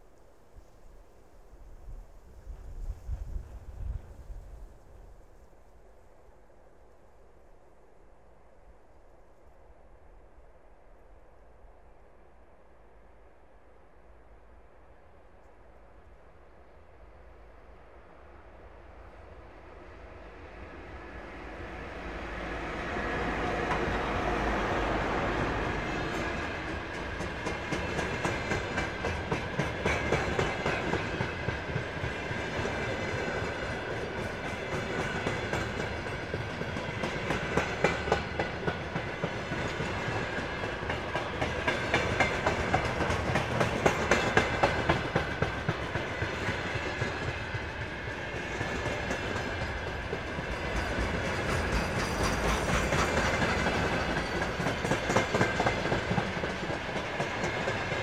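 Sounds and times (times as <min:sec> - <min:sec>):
electric locomotive passing: 0:01.1 - 0:58.0.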